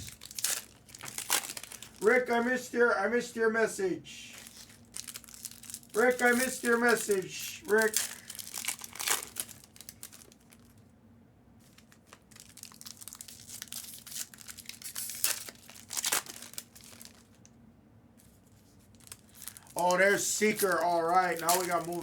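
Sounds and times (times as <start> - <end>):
foil wrappers crinkling and tearing: 0.0 - 2.6, 4.2 - 10.9, 11.6 - 17.5, 18.2 - 22.0
faint low hum: 0.0 - 22.0.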